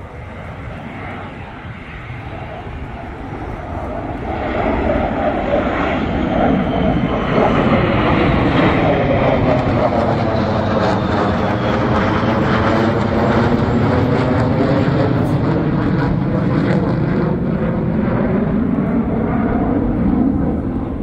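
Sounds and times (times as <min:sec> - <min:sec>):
fighter jets flying overhead: 0:00.0 - 0:21.0.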